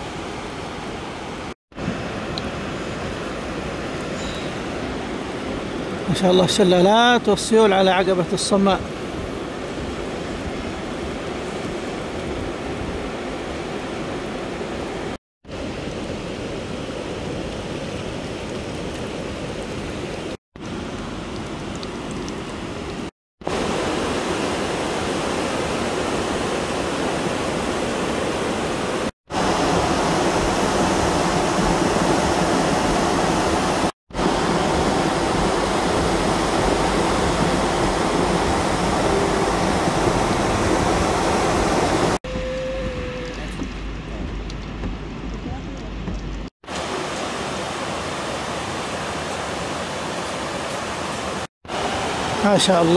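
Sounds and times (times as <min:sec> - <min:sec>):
flood water rushing over rocks: 0:00.0 - 0:52.9.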